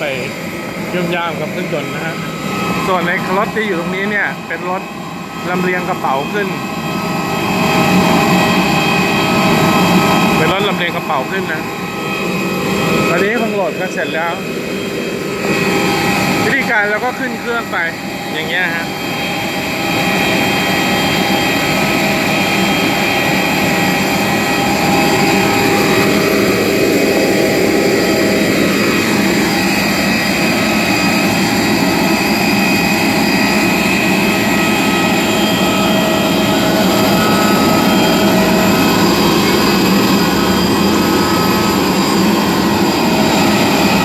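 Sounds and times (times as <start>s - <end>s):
jet turbine running: 0.0s - 44.0s.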